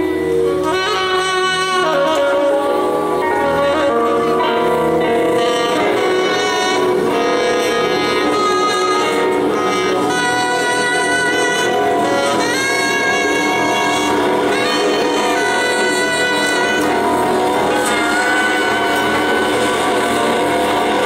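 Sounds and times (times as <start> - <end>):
electric slide guitar lead: 0.0 - 21.0
live band with drums: 0.0 - 21.0.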